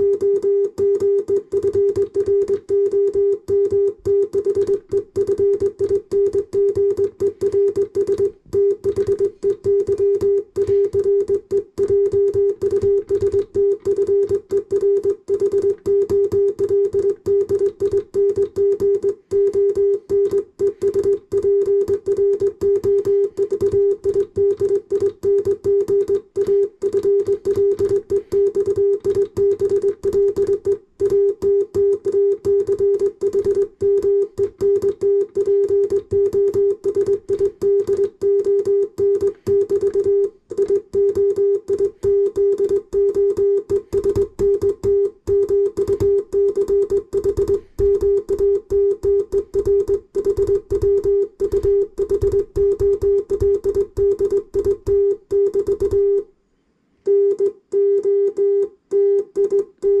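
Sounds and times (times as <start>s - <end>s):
morse code beeps: 0.0s - 56.3s, 57.1s - 60.0s.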